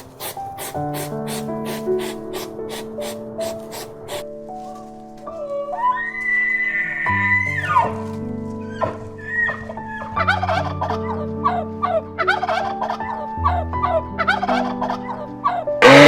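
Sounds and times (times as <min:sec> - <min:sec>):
background music with held chords: 0:00.8 - 0:16.0.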